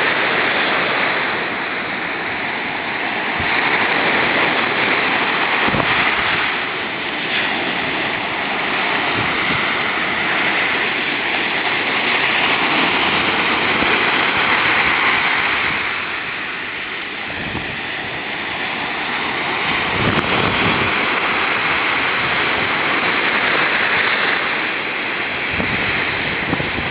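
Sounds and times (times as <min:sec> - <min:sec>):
ocean surf washing ashore: 0:00.0 - 0:26.9.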